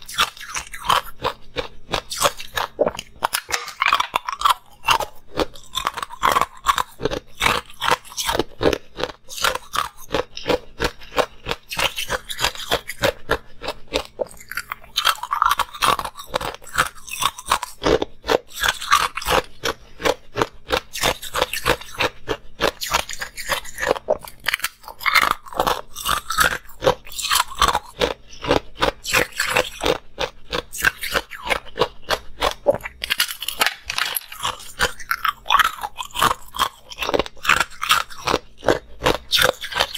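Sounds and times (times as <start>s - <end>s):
ice cubes crunching: 0.0s - 39.9s.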